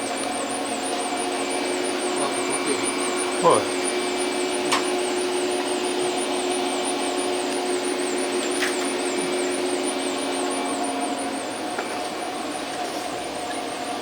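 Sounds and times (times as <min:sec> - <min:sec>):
workshop machinery rush: 0:00.0 - 0:14.0.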